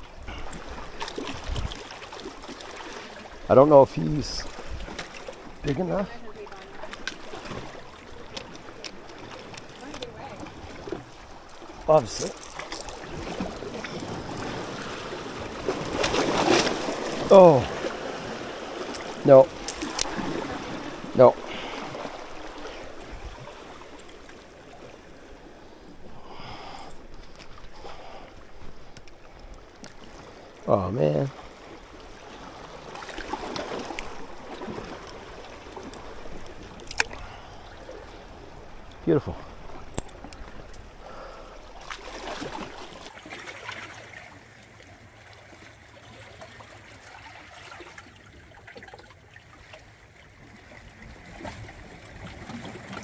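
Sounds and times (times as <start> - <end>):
seawater lapping and trickling: 0.0 - 53.0
water: 0.0 - 53.0
wind: 0.0 - 53.0.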